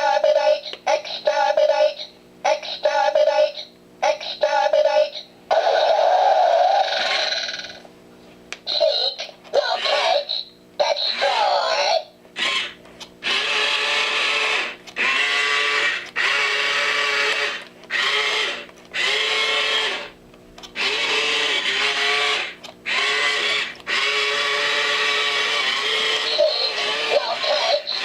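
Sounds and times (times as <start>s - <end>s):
toy buzzing: 2.8s - 7.8s, 8.7s - 28.0s.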